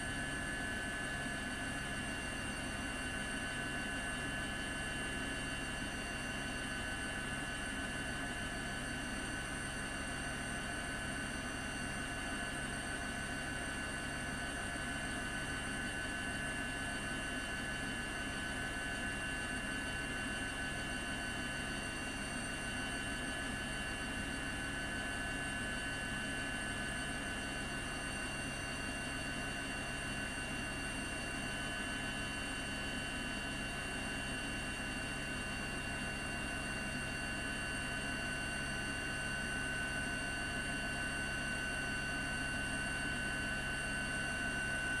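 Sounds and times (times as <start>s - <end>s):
helicopter engine and rotor: 0.0s - 45.0s.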